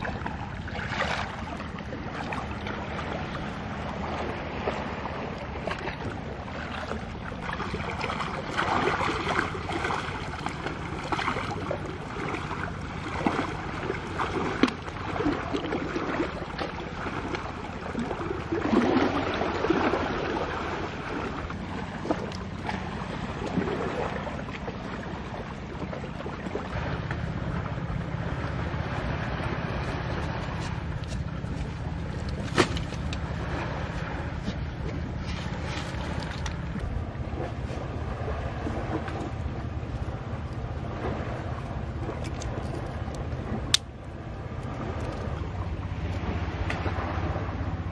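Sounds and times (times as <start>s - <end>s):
water splashing around legs: 0.0s - 27.7s, 28.9s - 47.1s
surf: 0.0s - 47.9s
wind rumble on microphone: 0.0s - 47.9s.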